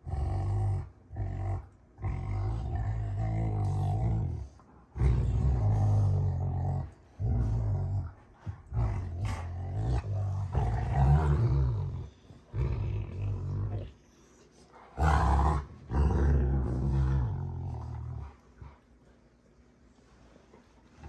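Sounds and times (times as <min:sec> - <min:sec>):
dogs growling: 0:00.0 - 0:19.0.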